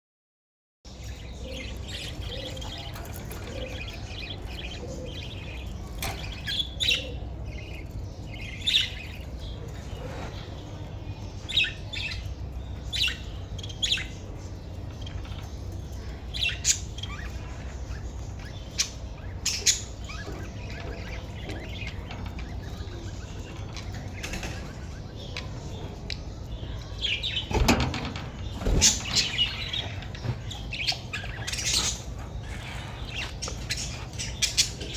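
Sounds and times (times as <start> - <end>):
steady low hum: 0.9 - 34.9.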